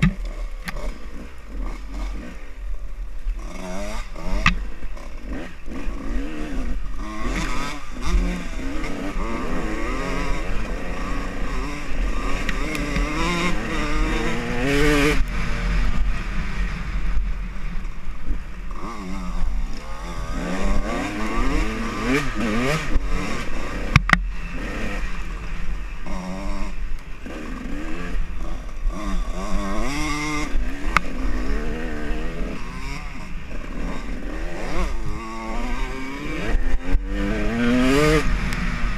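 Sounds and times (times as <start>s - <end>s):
dirt bike engine revving: 0.0s - 38.9s
wind and vibration rumble: 0.0s - 38.9s.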